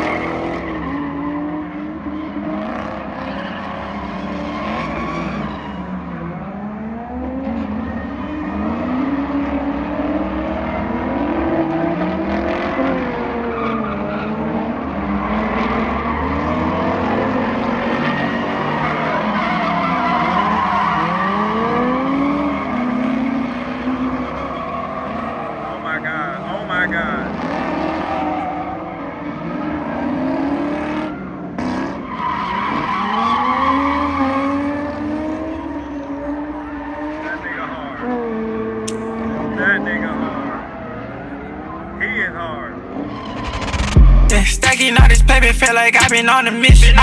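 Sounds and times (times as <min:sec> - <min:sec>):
tyres squealing and skidding: 0:00.0 - 0:06.7, 0:07.3 - 0:47.0
car engine revving hard: 0:00.0 - 0:42.0.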